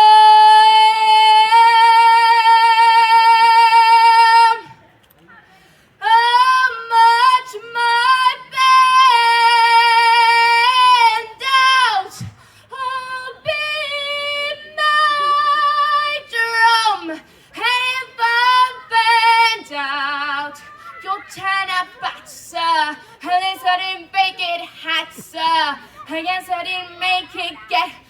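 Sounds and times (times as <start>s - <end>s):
woman singing a cappella: 0.0s - 4.7s, 6.0s - 28.0s.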